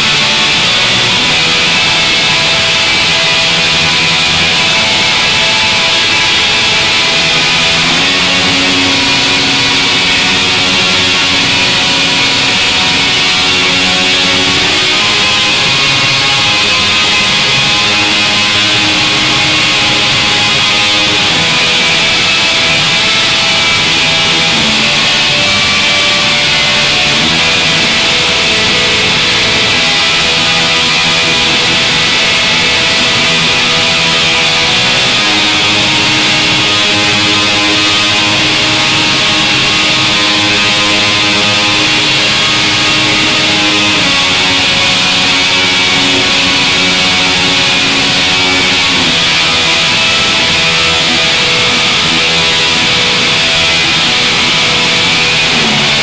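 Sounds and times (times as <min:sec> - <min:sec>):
guitar instrumental music: 0:00.0 - 0:56.0.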